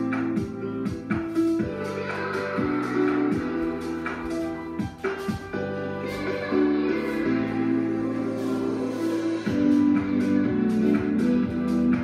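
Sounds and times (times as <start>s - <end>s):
music with held chords: 0.0s - 12.0s.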